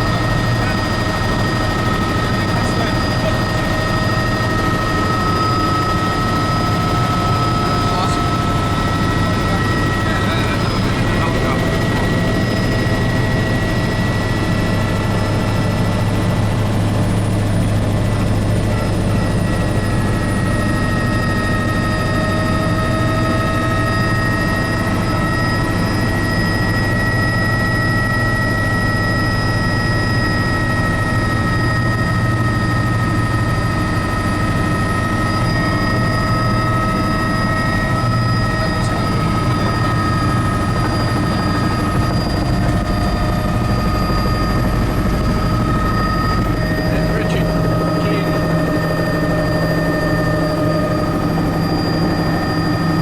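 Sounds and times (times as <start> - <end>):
helicopter rotor drone: 0.0 - 53.0
high turbine whine: 0.0 - 53.0.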